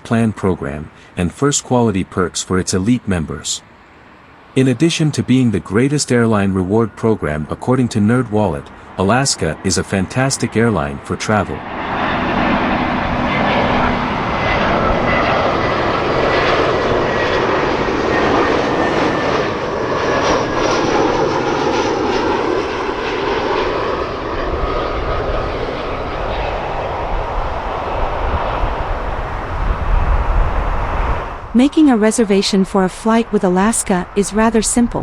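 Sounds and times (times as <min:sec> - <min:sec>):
faint high whine: 0:00.0 - 0:35.0
jet engines roaring: 0:00.0 - 0:35.0.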